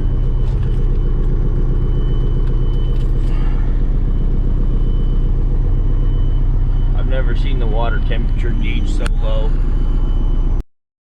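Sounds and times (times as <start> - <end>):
diesel truck engine idling: 0.0 - 10.6.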